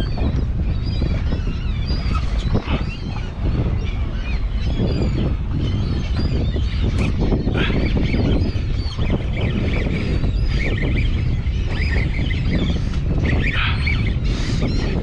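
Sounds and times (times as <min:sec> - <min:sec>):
seabirds screeching: 0:00.0 - 0:15.0
wind buffeting microphone: 0:00.0 - 0:15.0.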